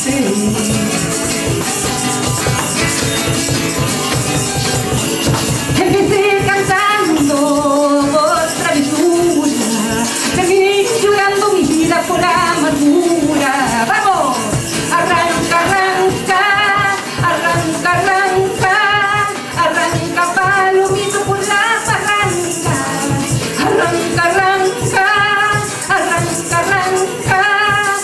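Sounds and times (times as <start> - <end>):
woman singing: 0.0 - 1.6, 5.7 - 28.0
hand drum beat: 0.0 - 28.0
strummed acoustic guitar: 0.0 - 28.0.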